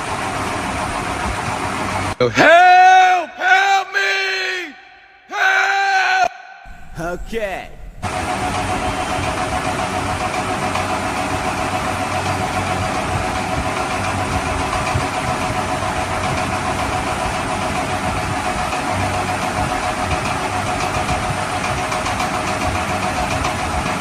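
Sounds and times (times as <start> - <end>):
engine idling with faint whine: 0.0 - 2.2, 6.7 - 24.0.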